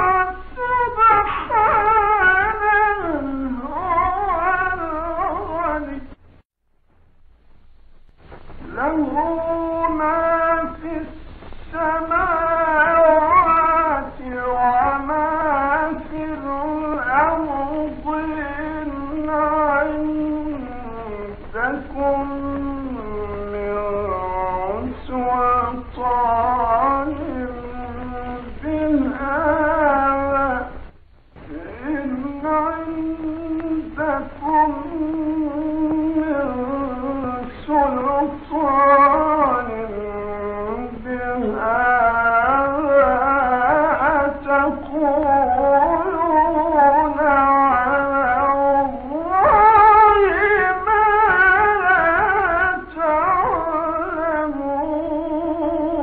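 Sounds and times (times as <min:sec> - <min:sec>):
man chanting recitation: 0:00.0 - 0:06.2, 0:08.6 - 0:56.0.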